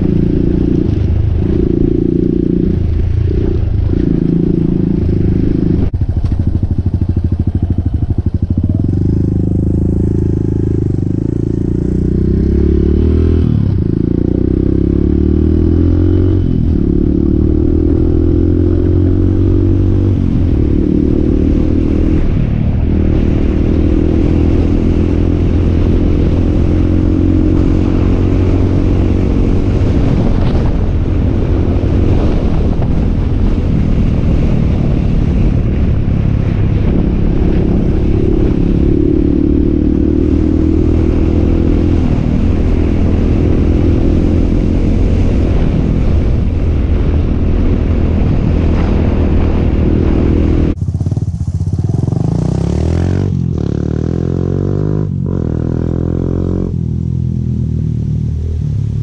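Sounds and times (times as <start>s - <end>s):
motorcycle approaching: 0.0s - 59.0s
motorcycle engine running: 0.0s - 59.0s.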